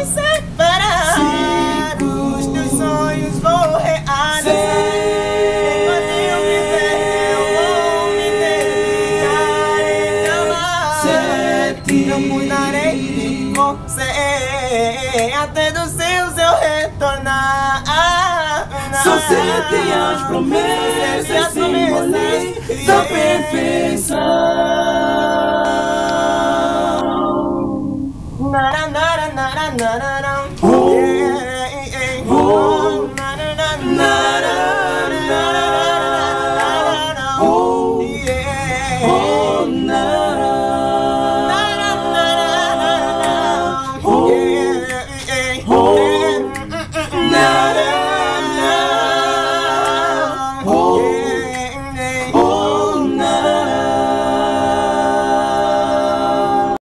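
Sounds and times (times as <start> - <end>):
male choir singing a cappella: 0.0 - 56.8.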